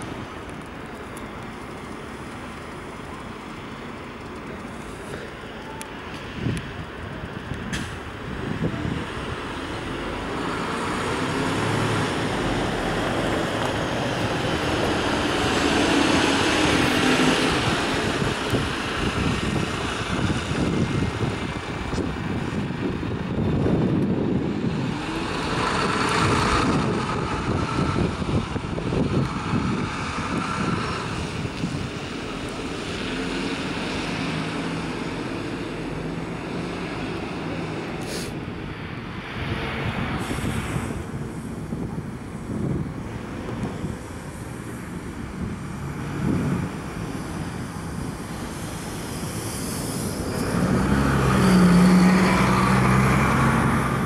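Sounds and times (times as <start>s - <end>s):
large vehicle passing: 7.4s - 54.0s.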